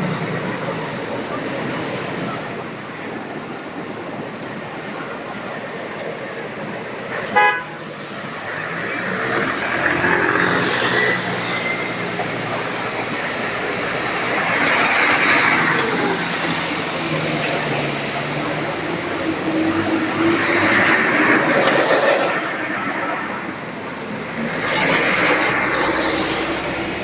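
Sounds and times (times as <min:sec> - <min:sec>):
buses driving past: 0:00.0 - 0:27.0
low hum of traffic: 0:00.0 - 0:27.0.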